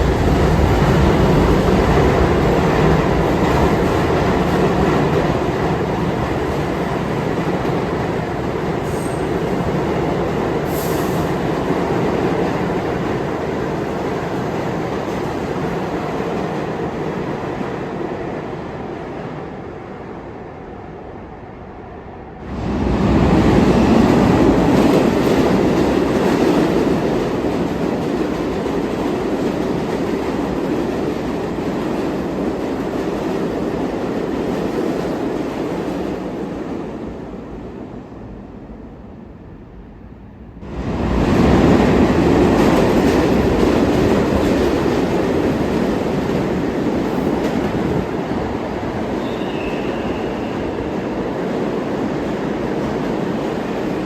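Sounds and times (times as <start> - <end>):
subway train rumbling with wheel clatter: 0.0 - 54.0.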